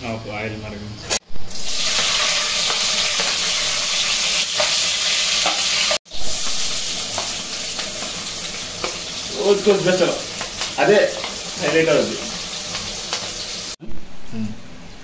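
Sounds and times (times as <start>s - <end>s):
chillies sizzling in hot oil: 1.1s - 13.8s.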